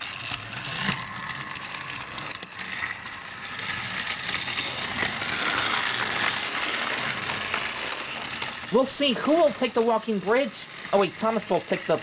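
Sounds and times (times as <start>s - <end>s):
toy train motors running: 0.0s - 12.0s.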